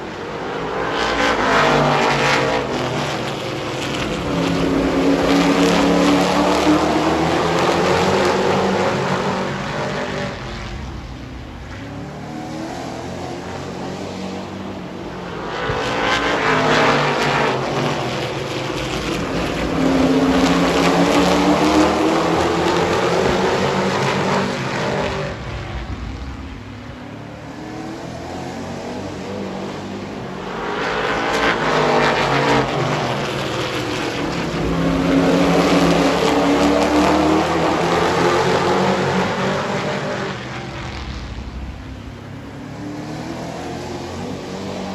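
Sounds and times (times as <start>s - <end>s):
racing truck engines: 0.0s - 44.9s.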